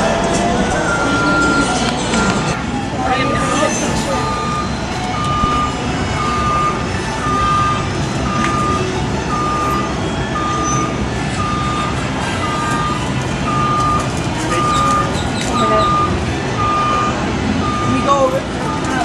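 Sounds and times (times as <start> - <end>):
low engine rumble: 0.0 - 19.0
back-up alarm beeping: 0.8 - 19.0.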